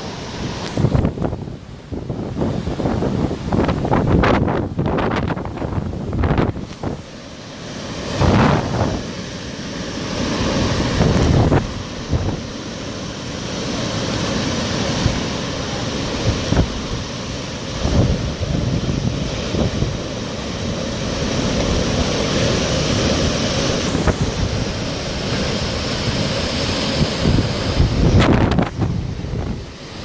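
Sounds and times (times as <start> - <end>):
hurricane wind gusting: 0.0 - 30.0.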